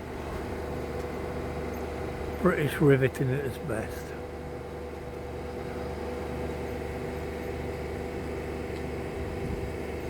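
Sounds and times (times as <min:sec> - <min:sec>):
mechanical hum: 0:00.0 - 0:10.0.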